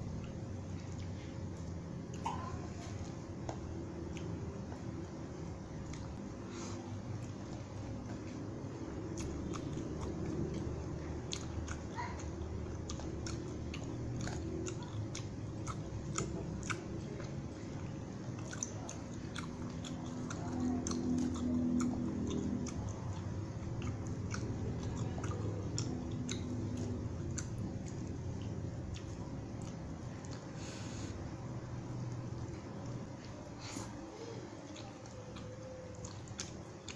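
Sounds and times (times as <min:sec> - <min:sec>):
mouth chewing with wet smacks: 0:00.0 - 0:36.9.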